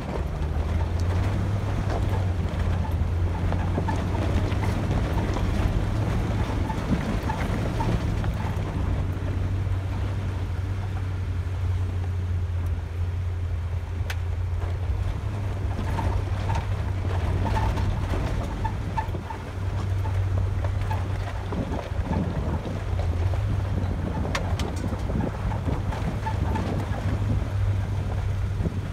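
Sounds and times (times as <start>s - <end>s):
low engine hum: 0.0s - 28.9s
tyres rumbling on gravel: 0.0s - 28.9s.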